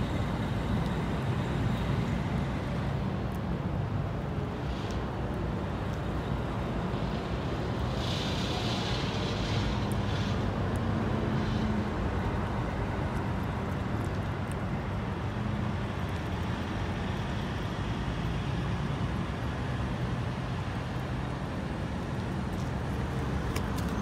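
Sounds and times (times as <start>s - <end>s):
low engine hum: 0.0s - 24.0s
road traffic rumble: 0.0s - 24.0s.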